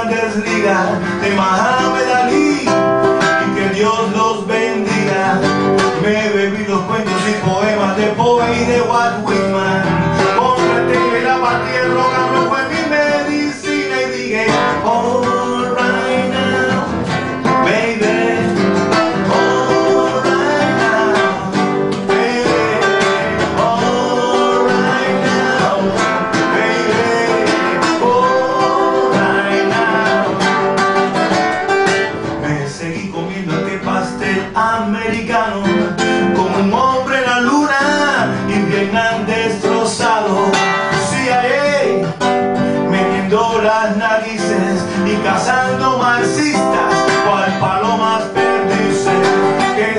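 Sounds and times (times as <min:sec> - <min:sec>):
man singing: 0:00.0 - 0:31.2, 0:31.8 - 0:49.9
acoustic guitar strumming: 0:00.0 - 0:49.9.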